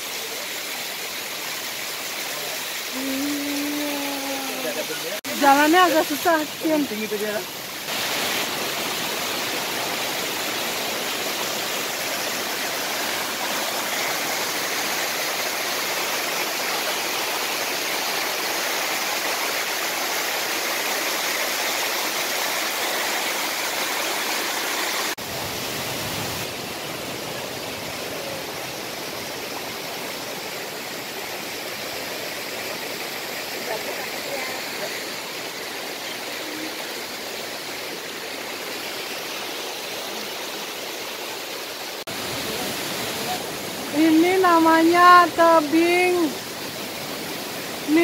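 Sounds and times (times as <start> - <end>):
water cascading over rocks: 0.0 - 48.0.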